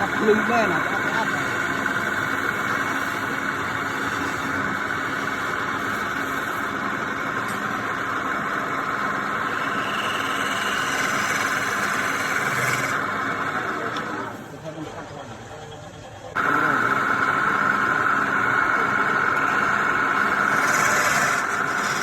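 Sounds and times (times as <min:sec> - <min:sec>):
wood lathe running: 0:00.0 - 0:14.4, 0:16.3 - 0:22.0.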